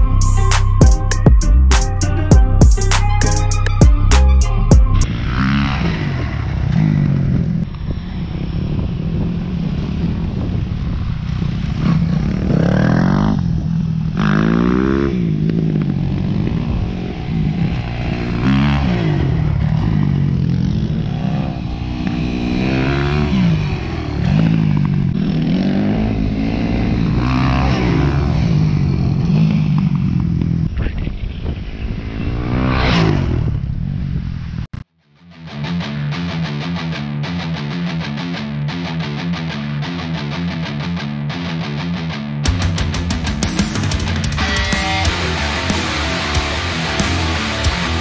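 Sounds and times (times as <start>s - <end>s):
dirt bike engines revving: 5.0s - 34.8s, 38.8s - 48.0s.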